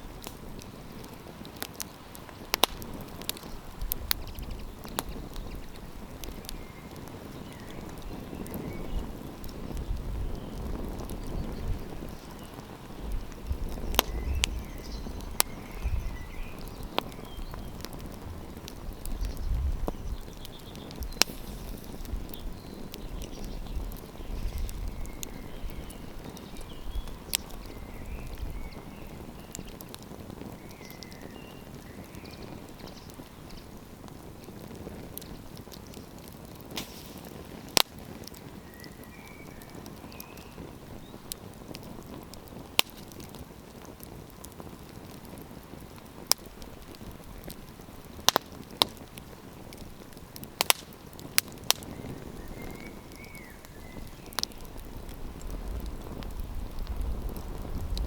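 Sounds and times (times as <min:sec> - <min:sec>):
campfire crackling and popping: 0:00.0 - 0:58.0
wind rumble on microphone: 0:00.0 - 0:58.0.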